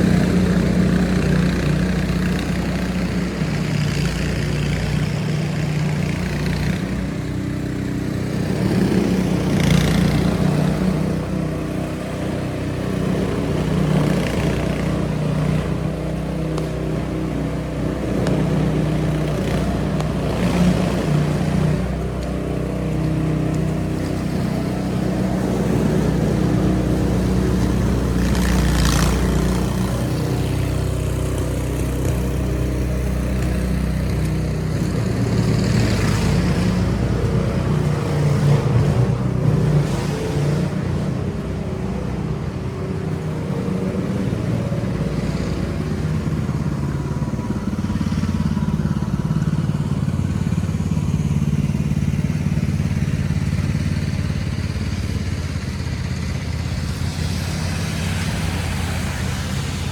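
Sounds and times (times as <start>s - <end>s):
cars passing: 0.0s - 59.9s
traffic engine rumble: 0.0s - 59.9s.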